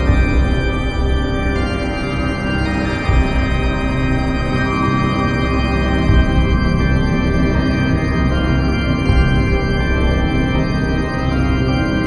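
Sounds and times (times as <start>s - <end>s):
sustained organ chords: 0.0s - 12.0s.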